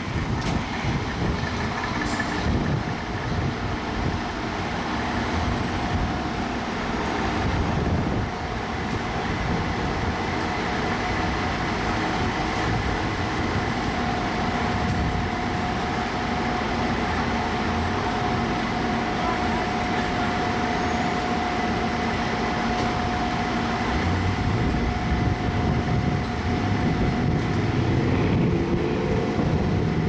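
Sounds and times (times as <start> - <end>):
heavy vehicle engine rumbling: 0.0 - 30.0.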